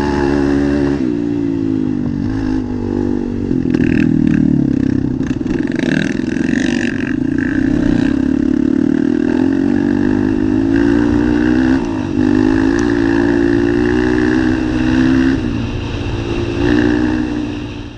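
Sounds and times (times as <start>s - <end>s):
quad engine revving: 0.0s - 17.9s.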